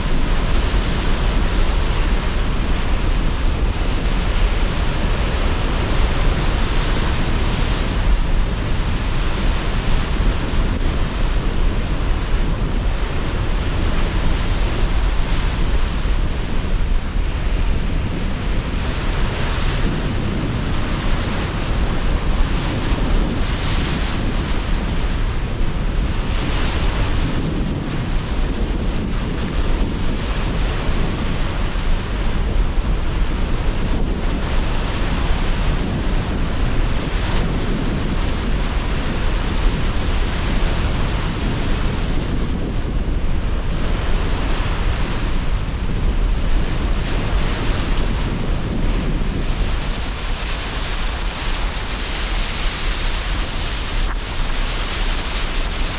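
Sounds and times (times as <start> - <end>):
sea surf washing in: 0.0 - 55.9
strong gusting wind: 0.0 - 55.9
waves breaking: 0.0 - 55.9.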